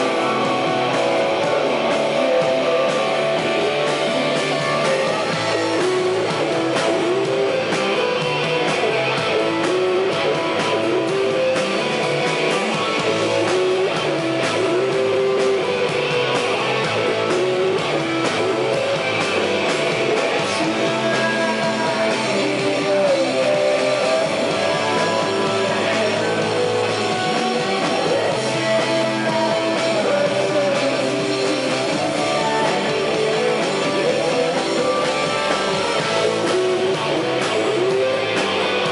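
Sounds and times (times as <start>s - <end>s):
drums: 0.0s - 38.9s
electric guitar strummed: 0.0s - 38.9s
live rock band: 0.0s - 38.9s.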